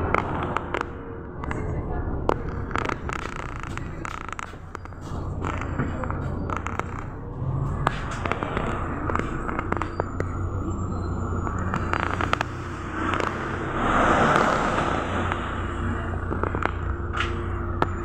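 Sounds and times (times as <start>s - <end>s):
bus engine drone: 0.0s - 18.0s
road noise: 0.0s - 18.0s.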